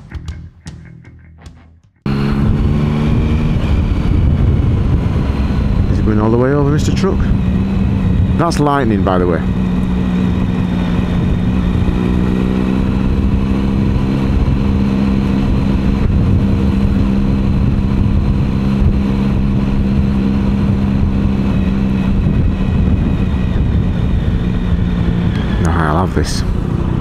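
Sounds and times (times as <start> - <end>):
motorcycle engine cruising: 0.0 - 27.0
road rumble: 0.0 - 27.0
wind: 2.0 - 27.0.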